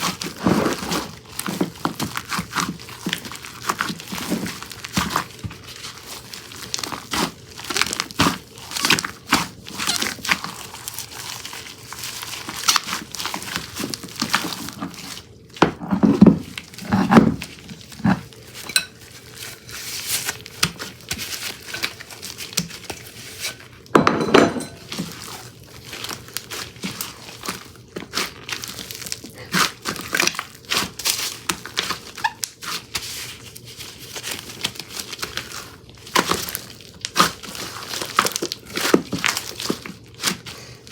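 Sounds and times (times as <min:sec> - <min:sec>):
hands squishing slime: 0:00.0 - 0:15.6, 0:16.5 - 0:23.7, 0:24.8 - 0:40.9.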